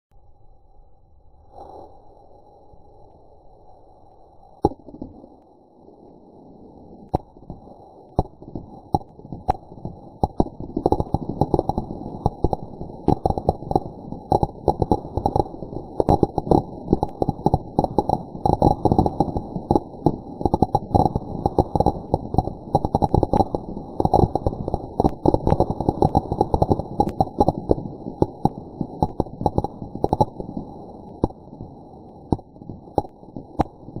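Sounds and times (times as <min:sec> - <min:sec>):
firecrackers popping: 0:04.6 - 0:05.4, 0:07.0 - 0:34.0.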